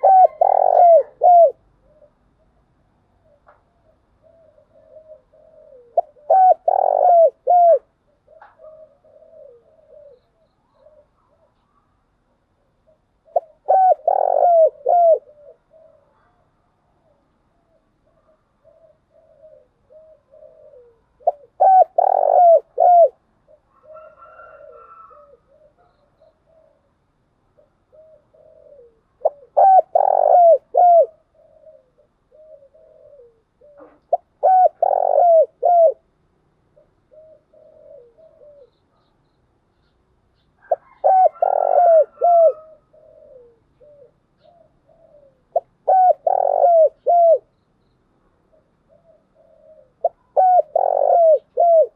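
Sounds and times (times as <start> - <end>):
dove cooing: 0.0 - 39.2, 40.4 - 47.6, 48.2 - 51.9.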